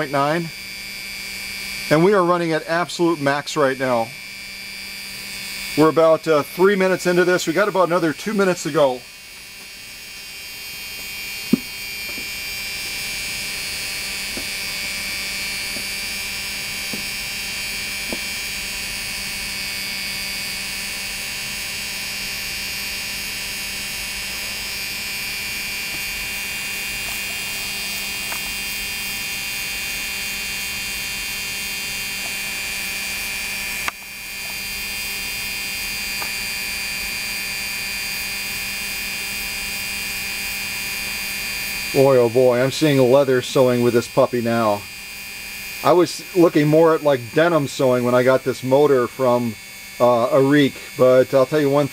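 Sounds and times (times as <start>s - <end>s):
sewing machine motor humming: 0.0s - 51.9s.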